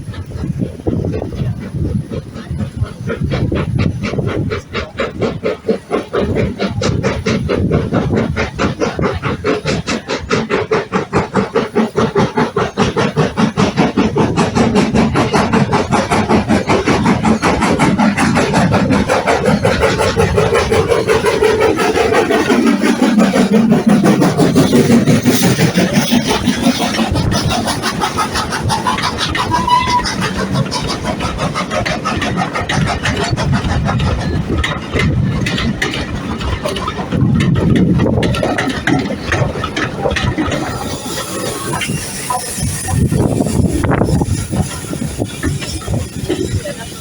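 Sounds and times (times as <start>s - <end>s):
steam hissing: 0.0s - 47.0s
steam locomotive exhaust chuffing: 0.0s - 47.0s.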